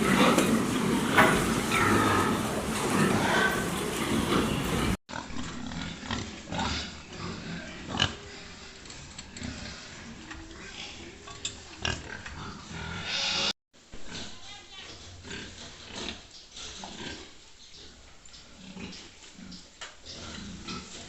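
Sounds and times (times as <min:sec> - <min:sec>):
pigs grunting: 0:00.0 - 0:21.0.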